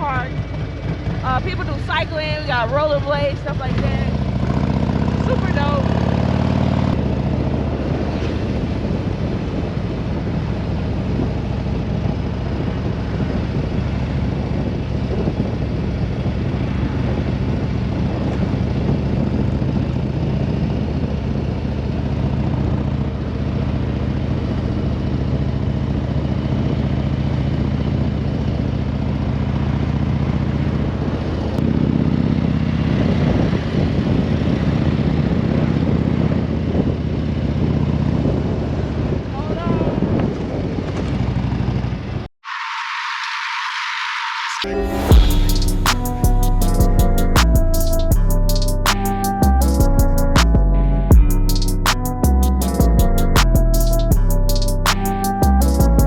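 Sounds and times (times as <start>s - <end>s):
motorcycle engine running: 0.0s - 42.3s, 45.0s - 56.0s.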